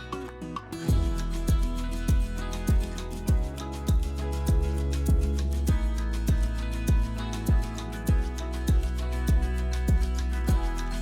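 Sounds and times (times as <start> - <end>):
plucked-string melody: 0.0 - 11.0
deep thumping beat: 0.9 - 10.8.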